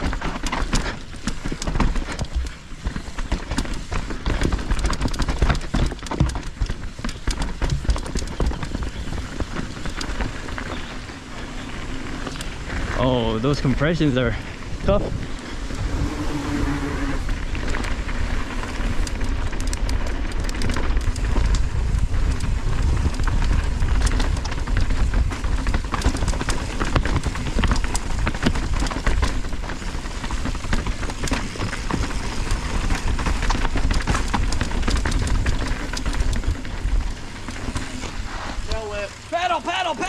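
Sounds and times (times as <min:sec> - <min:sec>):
wind buffeting microphone: 0:00.0 - 0:39.3
bike rattling and knocking: 0:00.0 - 0:40.0
tyres rolling over dirt and rocks: 0:00.0 - 0:40.0.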